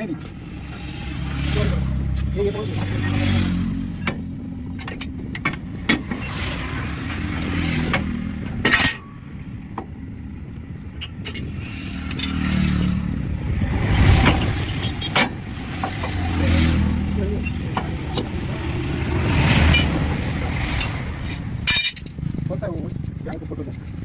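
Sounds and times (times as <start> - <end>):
road vehicles passing: 0.0 - 24.0.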